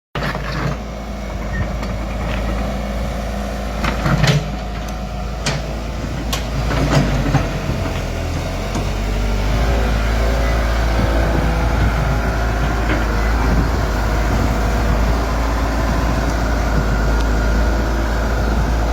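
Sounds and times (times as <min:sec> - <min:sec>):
excavator diesel engine running: 0:00.2 - 0:18.9.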